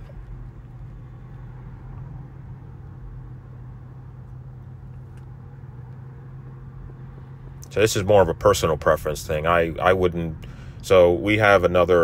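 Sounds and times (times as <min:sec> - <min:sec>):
constant low hum: 0:00.0 - 0:12.0
road and tyre noise: 0:00.0 - 0:12.0.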